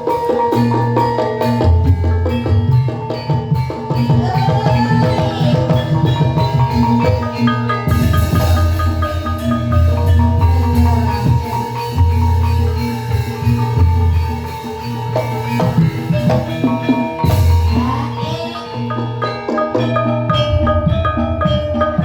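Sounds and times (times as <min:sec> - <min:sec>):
hand drum: 0:00.0 - 0:22.0
metallophone notes: 0:00.0 - 0:22.0.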